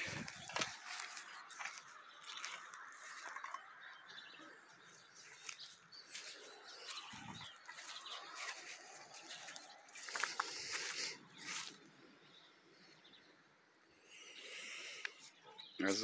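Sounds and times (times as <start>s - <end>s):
distant birds chirping: 0.0s - 16.0s.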